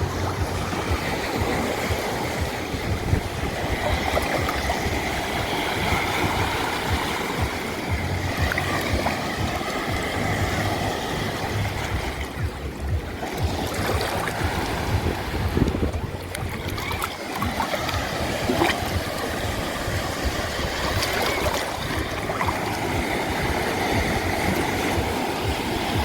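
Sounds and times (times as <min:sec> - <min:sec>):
sea waves on shore: 0:00.0 - 0:26.0
wind buffeting microphone: 0:00.0 - 0:26.0.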